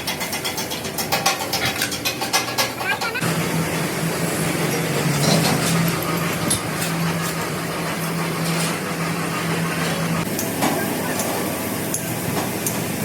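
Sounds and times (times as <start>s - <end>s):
machine running with low hum: 1.2s - 13.0s.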